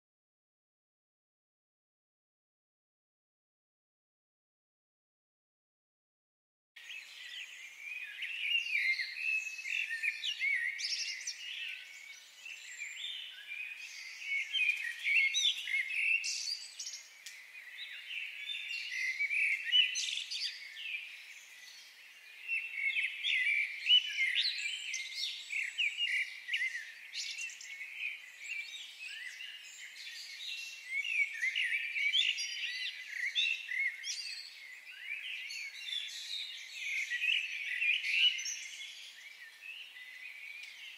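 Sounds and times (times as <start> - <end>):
small birds chirping: 6.8 - 40.9.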